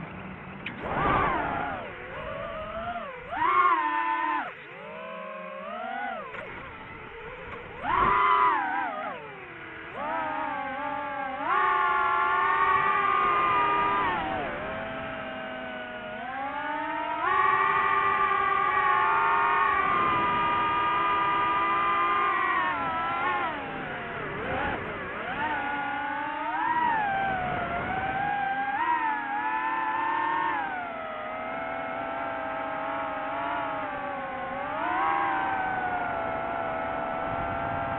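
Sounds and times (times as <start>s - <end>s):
drone propellers whining: 0.0s - 37.9s.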